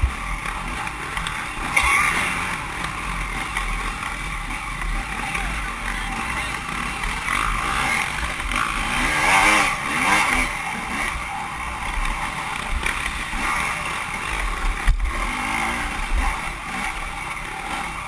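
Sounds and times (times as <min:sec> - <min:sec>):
motorcycle engine revving: 0:00.0 - 0:18.0
steady rushing noise: 0:00.0 - 0:18.0.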